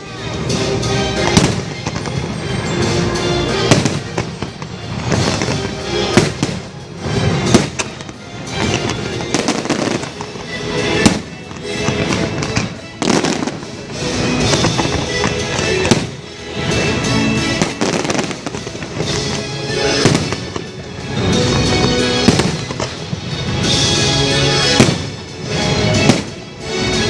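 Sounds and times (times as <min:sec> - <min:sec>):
loud music over speakers: 0:00.0 - 0:27.0
fireworks bangs and crackles: 0:00.4 - 0:27.0.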